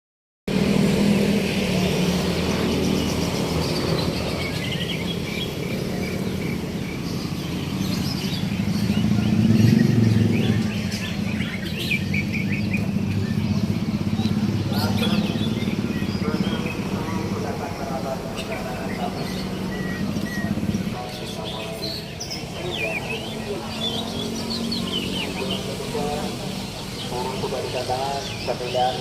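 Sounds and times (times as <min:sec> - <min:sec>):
songbirds chirping and trilling: 0:00.5 - 0:29.0.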